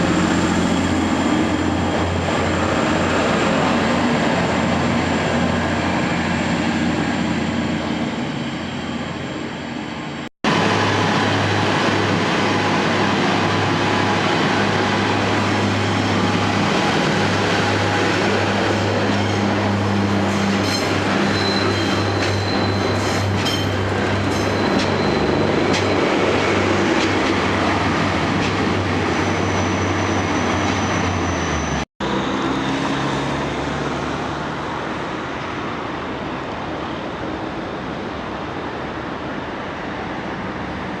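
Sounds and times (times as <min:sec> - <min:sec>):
train running on rails: 0:00.0 - 0:41.0.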